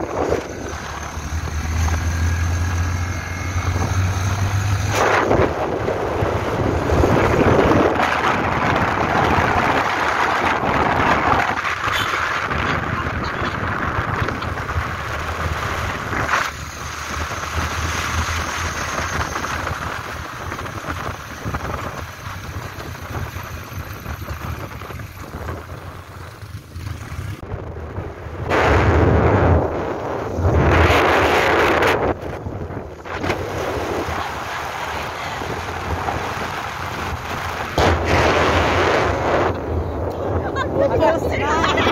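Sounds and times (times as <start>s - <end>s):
motorcycle engine running: 0.0s - 40.6s
wind rushing over microphone: 0.0s - 41.9s.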